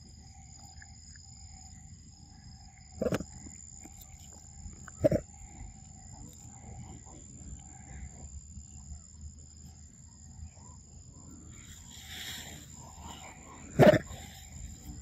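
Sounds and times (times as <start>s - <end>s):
high-pitched insect whine: 0.0s - 15.0s.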